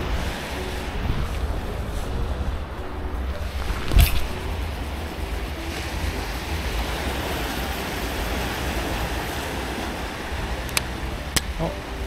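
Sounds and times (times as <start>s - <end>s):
sea surf washing: 0.0s - 12.0s
wind buffeting microphone: 0.0s - 12.0s.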